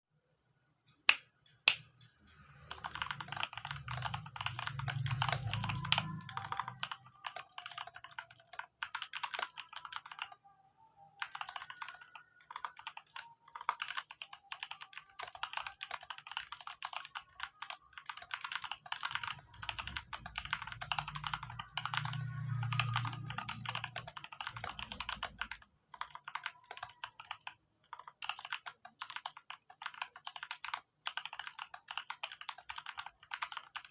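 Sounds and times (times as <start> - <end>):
sharp keyboard clicks: 1.1 - 1.9, 2.6 - 10.4, 11.2 - 33.9
mechanical keyboard typing: 2.5 - 10.4, 11.2 - 33.9.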